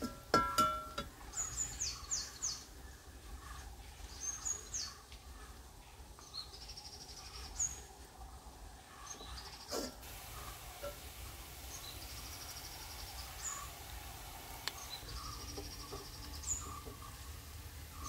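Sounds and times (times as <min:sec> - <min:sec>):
birds chirping: 0:01.0 - 0:18.0.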